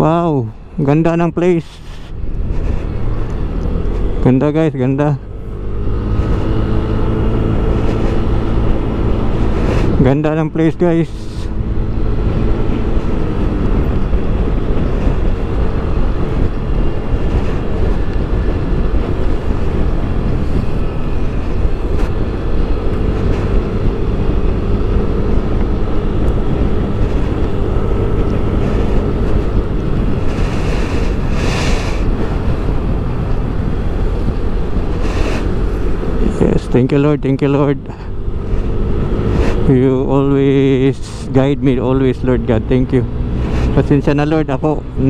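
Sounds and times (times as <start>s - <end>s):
wind on microphone: 1.1s - 4.2s, 5.2s - 45.0s.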